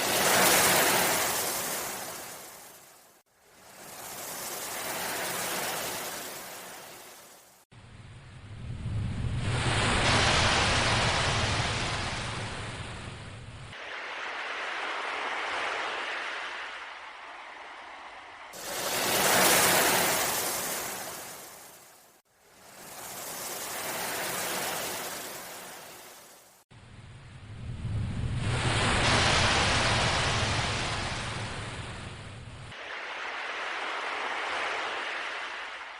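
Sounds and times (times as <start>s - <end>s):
sea waves breaking: 0.0s - 7.7s, 9.3s - 26.6s, 28.2s - 35.9s.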